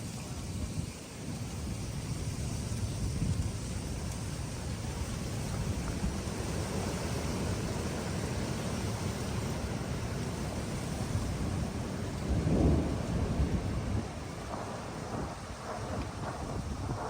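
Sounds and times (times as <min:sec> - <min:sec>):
thunder rumbling: 0:01.6 - 0:17.0.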